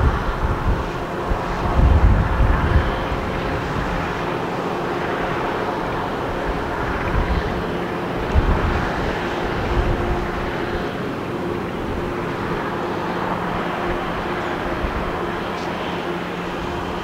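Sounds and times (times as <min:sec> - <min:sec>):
engine drone: 0:00.0 - 0:17.0
wind buffeting microphone: 0:00.0 - 0:17.0.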